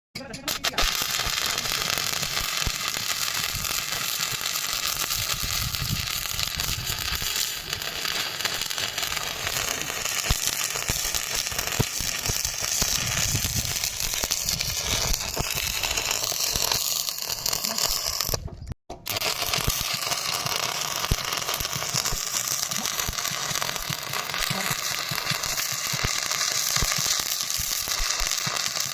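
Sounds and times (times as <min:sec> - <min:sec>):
welding arc crackling: 0:00.3 - 0:28.9.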